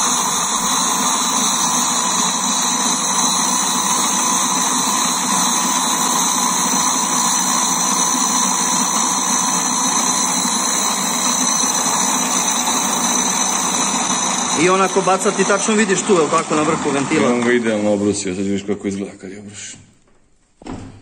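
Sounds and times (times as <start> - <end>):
valve grinding machine whine: 0.0 - 19.0.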